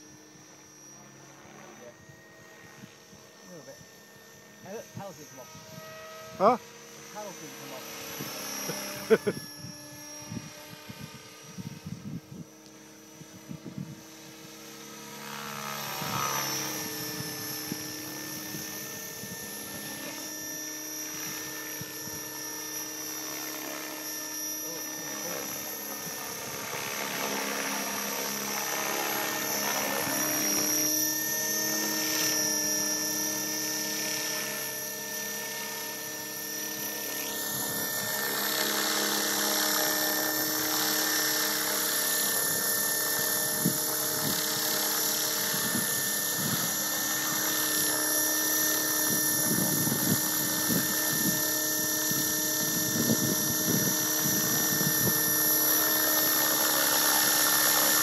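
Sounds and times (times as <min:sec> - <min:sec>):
model helicopter rotor whine: 0:00.0 - 0:58.0.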